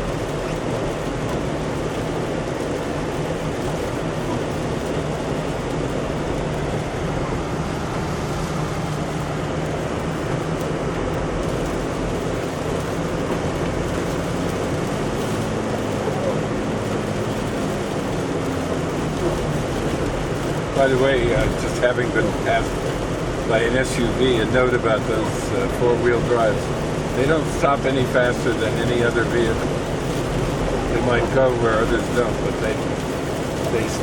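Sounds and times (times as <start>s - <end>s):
car engine hum: 0.0s - 34.0s
tyres on wet road: 0.0s - 34.0s.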